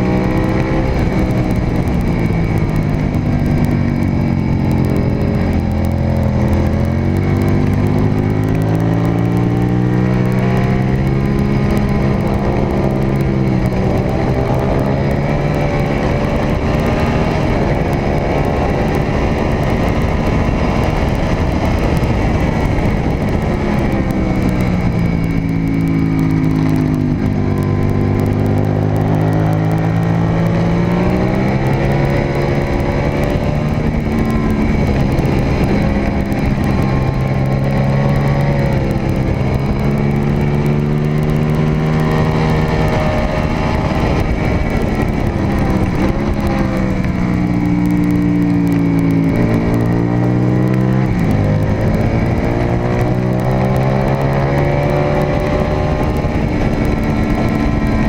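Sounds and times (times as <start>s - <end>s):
heavy wind rush: 0.0s - 58.0s
motorcycle engine at racing speed: 0.0s - 58.0s.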